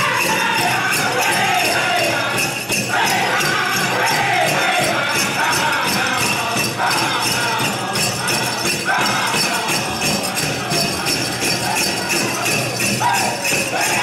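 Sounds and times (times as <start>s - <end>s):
bells jingling: 0.0s - 14.0s
drum group singing: 0.0s - 14.0s
steady drumbeat: 0.0s - 14.0s.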